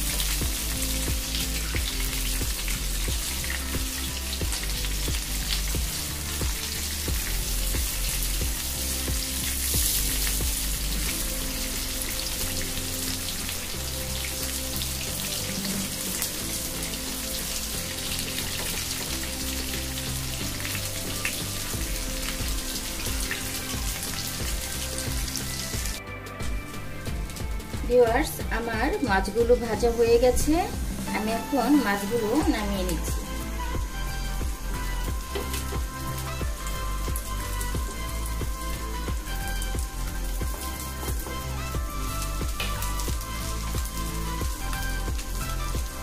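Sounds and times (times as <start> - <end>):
background music: 0.0 - 46.0
prawns sizzling in hot oil: 0.0 - 46.0.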